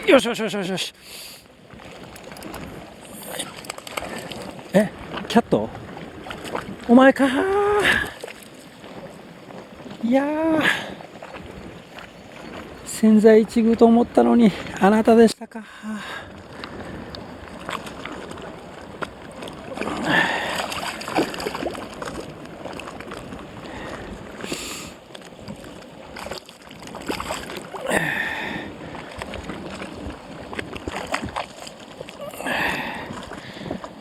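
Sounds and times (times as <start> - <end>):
water sloshing and splashing: 0.0 - 15.4, 16.0 - 34.0.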